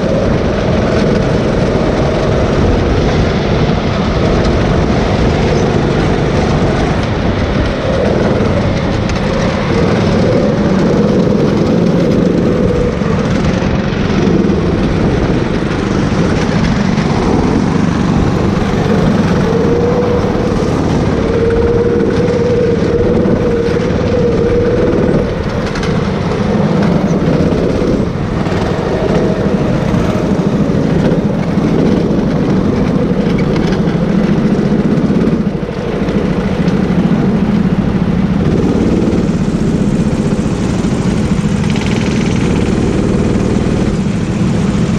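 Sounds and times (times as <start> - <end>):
go-kart engine revving: 0.0 - 44.9.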